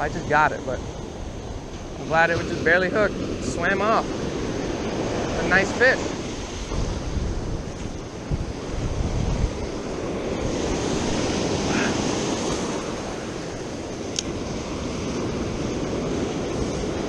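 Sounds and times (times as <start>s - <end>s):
ocean waves breaking on beach: 0.0s - 17.0s.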